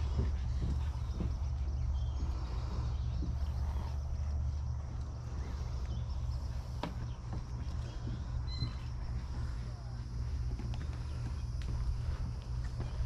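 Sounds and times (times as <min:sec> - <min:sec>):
footsteps on wooden boardwalk: 0:00.0 - 0:13.0
steady low rumble: 0:00.0 - 0:13.0.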